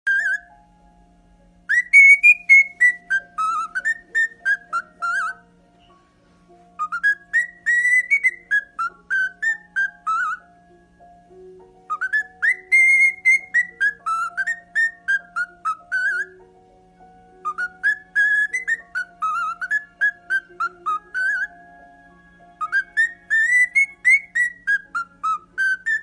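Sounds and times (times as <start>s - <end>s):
parrot whistling a tune: 0.0s - 0.6s, 1.7s - 5.5s, 6.8s - 10.5s, 11.9s - 16.4s, 17.4s - 26.0s.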